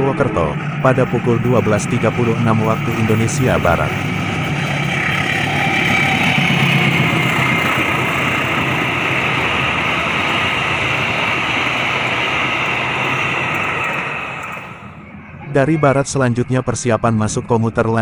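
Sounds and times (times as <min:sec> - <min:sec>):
diesel locomotive engine passing: 0:00.0 - 0:18.0
train wheels on rails: 0:00.4 - 0:15.2.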